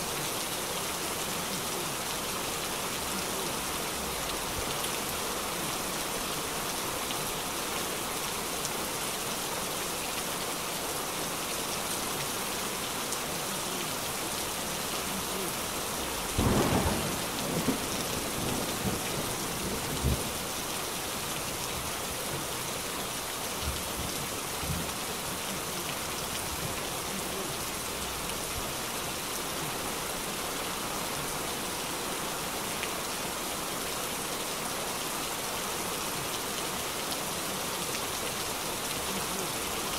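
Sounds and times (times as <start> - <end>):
heavy rain on street: 0.0 - 39.9.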